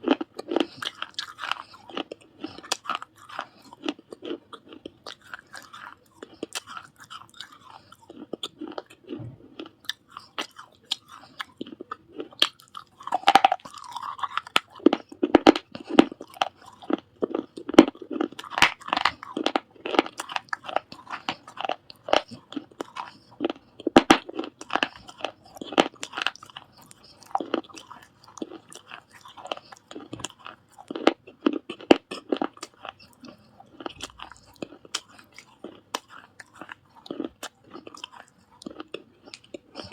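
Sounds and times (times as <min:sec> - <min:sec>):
baked clay being chewed: 0:00.0 - 0:39.9.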